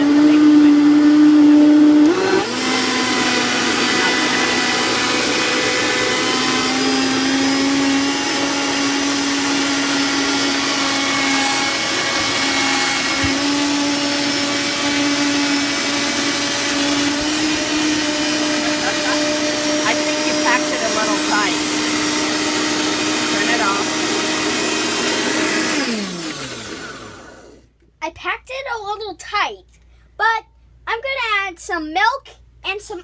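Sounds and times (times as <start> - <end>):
blender motor whining: 0.0 - 27.7.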